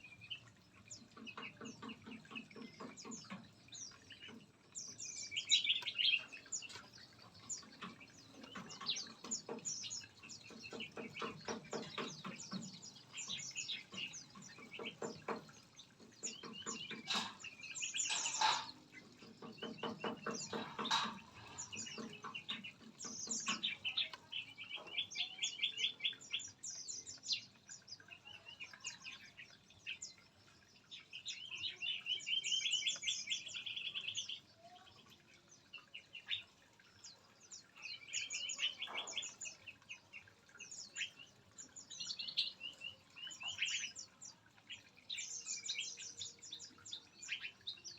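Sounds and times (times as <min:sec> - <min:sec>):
small birds chirping and trilling: 0:00.0 - 0:47.9.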